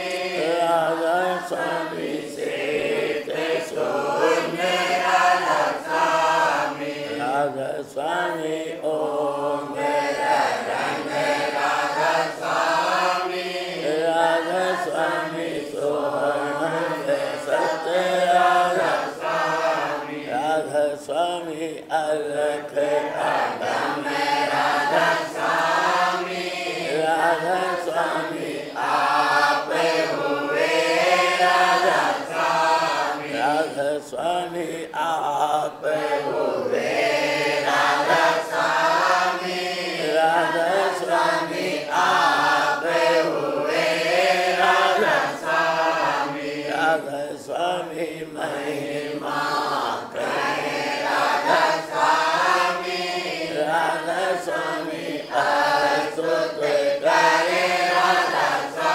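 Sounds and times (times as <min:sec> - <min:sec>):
voices singing a slow chant: 0:00.0 - 0:58.9.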